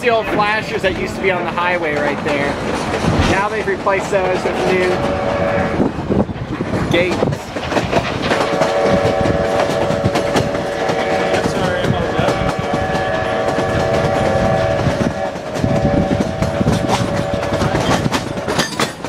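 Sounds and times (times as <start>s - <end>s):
train wheels clattering on rail joints: 0.0s - 19.0s.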